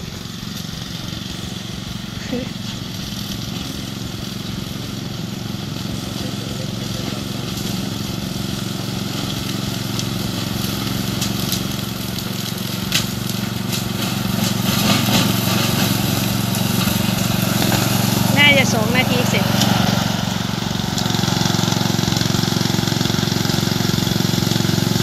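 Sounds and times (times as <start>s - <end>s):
ride-on mower engine: 0.0s - 25.0s.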